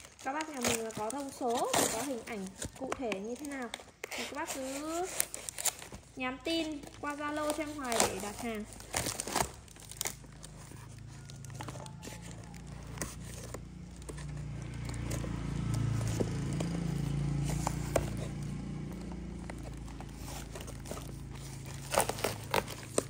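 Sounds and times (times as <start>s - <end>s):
cardboard parcel crinkling and tapping: 0.0s - 23.0s
knife cutting packing tape: 0.0s - 23.0s.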